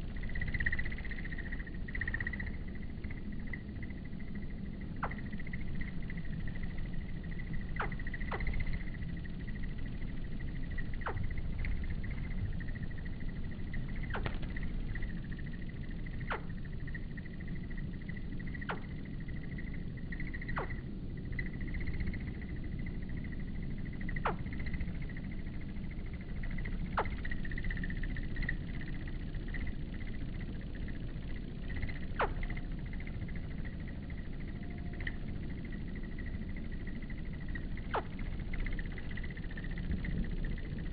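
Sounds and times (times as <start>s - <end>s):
insect chorus trilling: 0.0s - 40.9s
low background rumble: 0.0s - 40.9s.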